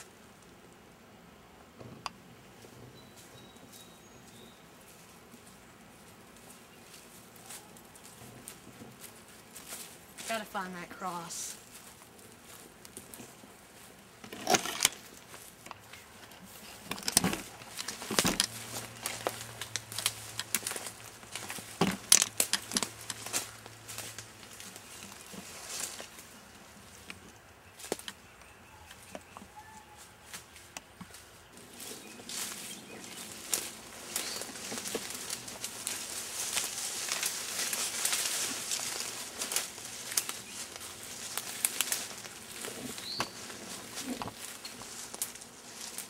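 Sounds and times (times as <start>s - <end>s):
footsteps crunching dry leaves: 2.6s - 28.3s, 28.9s - 46.0s.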